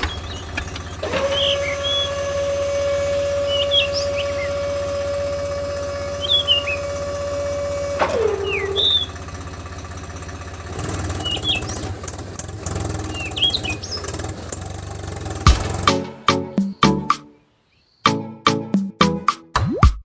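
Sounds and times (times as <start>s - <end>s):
small motor whining: 0.0s - 16.0s
rough noisy running sound: 0.0s - 16.7s
birds chirping: 0.0s - 18.2s.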